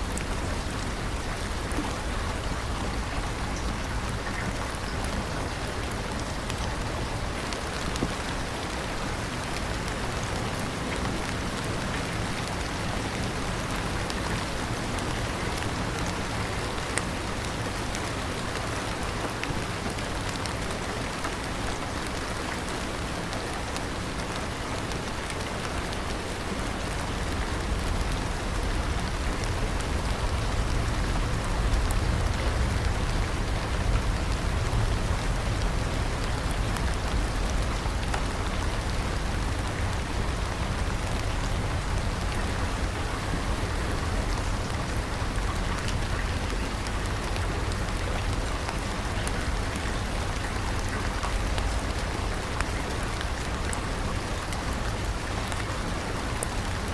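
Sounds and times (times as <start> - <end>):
rain falling: 0.0 - 56.9.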